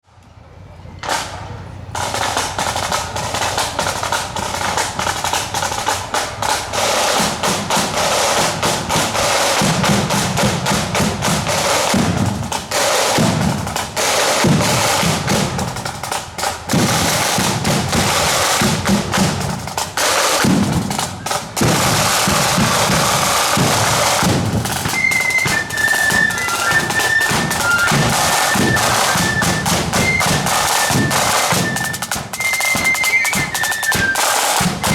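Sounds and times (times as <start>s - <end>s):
snare drums rattling: 1.0s - 34.9s.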